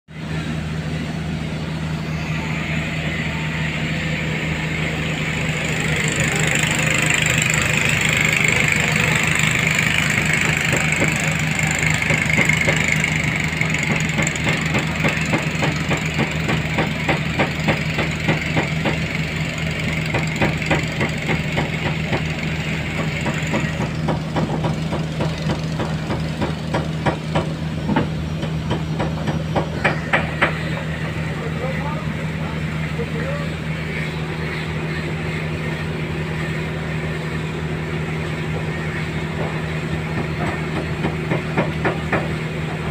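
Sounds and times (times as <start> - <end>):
boat engine humming and knocking: 0.1 - 42.9.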